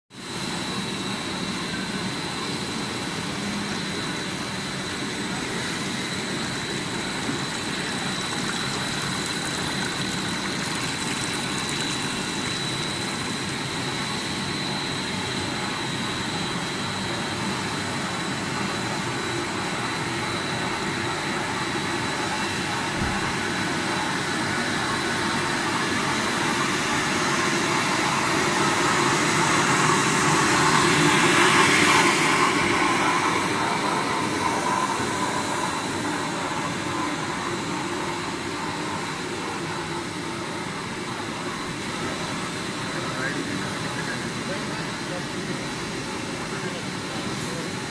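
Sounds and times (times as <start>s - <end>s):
high-pitched machine whine: 0.2s - 47.9s
production line machinery humming: 0.2s - 47.9s.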